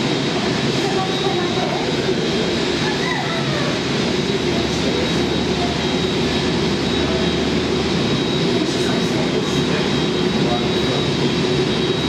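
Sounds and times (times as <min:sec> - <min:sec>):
jet engines rushing: 0:00.0 - 0:12.0
thin high engine whine: 0:00.0 - 0:12.0.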